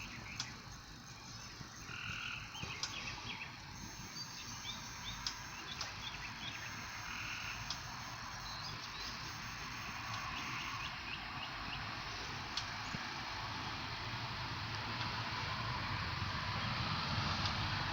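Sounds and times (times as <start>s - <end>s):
frogs croaking trills: 0.0s - 16.9s.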